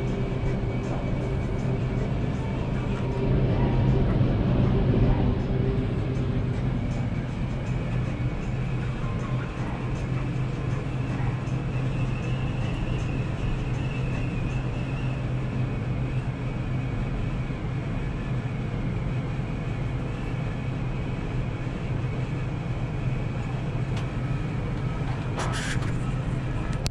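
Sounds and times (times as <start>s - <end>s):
low machine hum: 0.0s - 26.9s.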